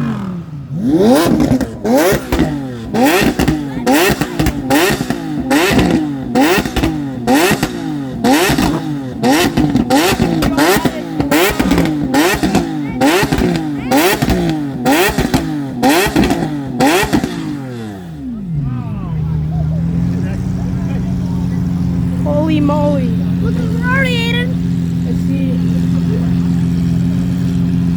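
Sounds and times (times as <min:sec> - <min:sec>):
exhaust cracks: 0:00.0 - 0:27.9
sports car engine revving: 0:00.0 - 0:27.9.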